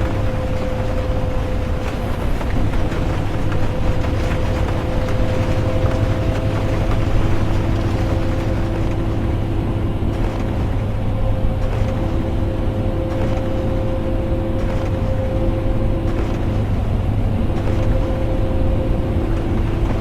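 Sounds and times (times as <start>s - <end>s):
bus engine and road rumble: 0.0s - 20.0s
constant hum: 0.0s - 20.0s.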